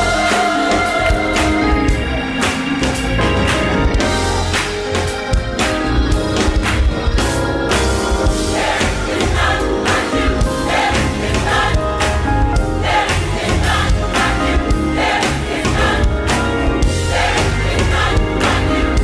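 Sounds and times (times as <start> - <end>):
drums keeping a steady beat: 0.0 - 19.0
gospel choir singing with band: 0.0 - 19.0.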